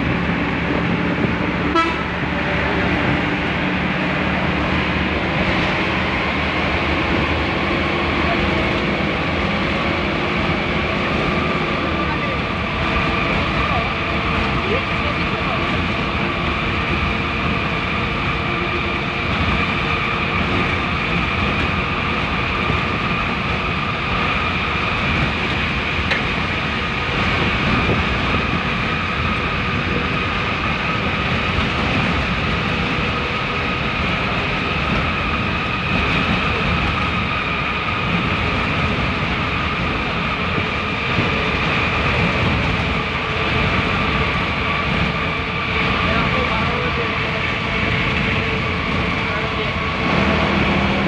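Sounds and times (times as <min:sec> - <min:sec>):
bus engine and tyre drone: 0:00.0 - 0:51.0.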